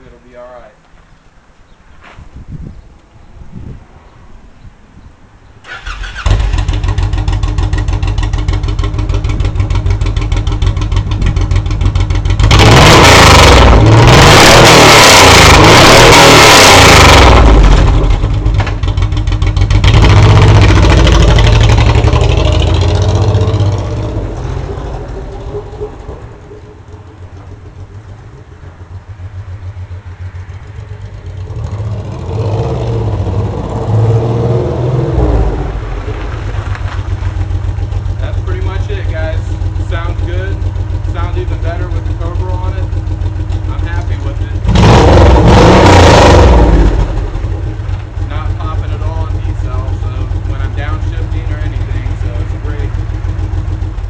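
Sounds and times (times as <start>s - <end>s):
motorcycle engine revving: 5.7s - 54.0s.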